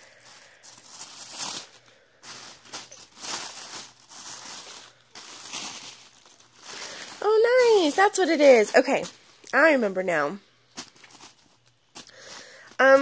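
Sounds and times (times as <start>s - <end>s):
tissue paper rustling: 0.0s - 9.4s, 10.7s - 12.9s.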